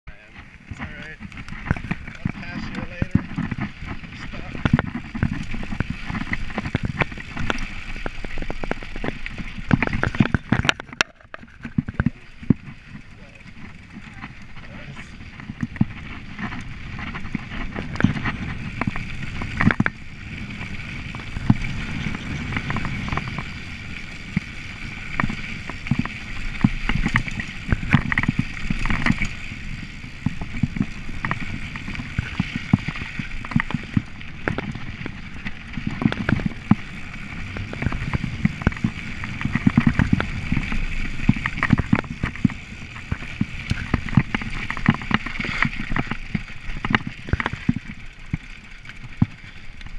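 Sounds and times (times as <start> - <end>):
bike clicking and rattling over bumps: 0.1 - 49.9
bike tyres rumbling on dirt: 0.1 - 49.9.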